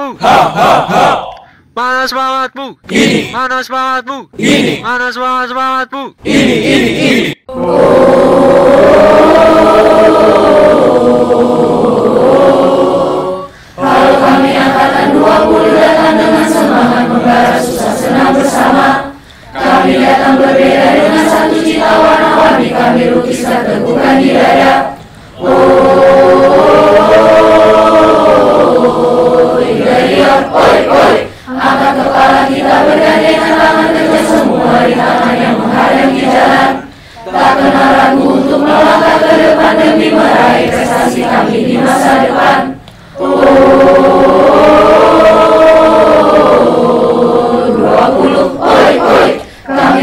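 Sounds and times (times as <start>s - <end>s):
group singing a cheer song: 0.0s - 1.5s, 2.8s - 3.4s, 4.4s - 4.9s, 6.2s - 50.0s.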